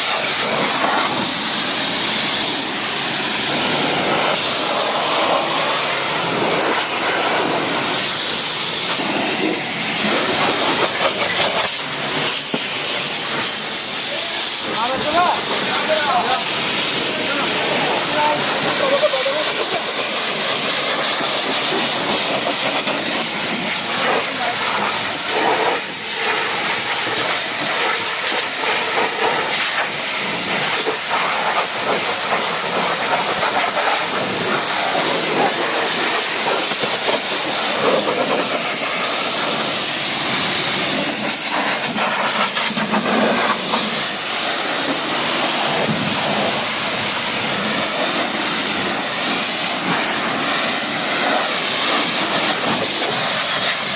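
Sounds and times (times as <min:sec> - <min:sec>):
pressure washer spraying water: 0:00.0 - 0:53.9.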